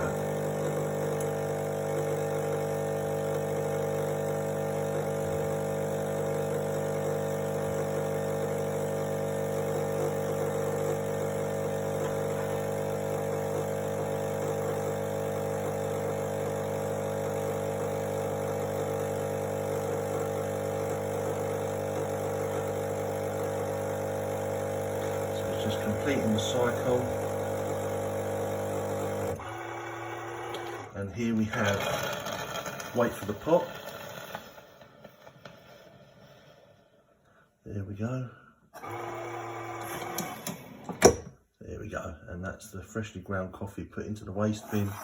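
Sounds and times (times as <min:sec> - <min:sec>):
coffee machine pump humming: 0:00.0 - 0:35.6, 0:38.8 - 0:41.3, 0:44.5 - 0:45.0.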